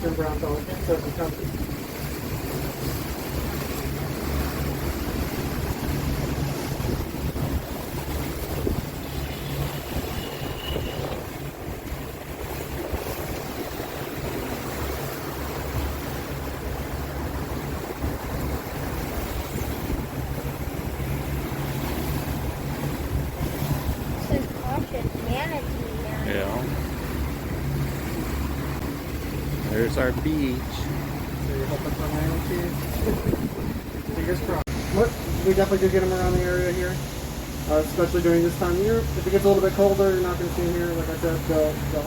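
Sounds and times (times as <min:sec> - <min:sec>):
wind buffeting microphone: 0:00.0 - 0:37.9
boat motor droning: 0:00.0 - 0:42.0
water rushing past hull: 0:00.0 - 0:42.0.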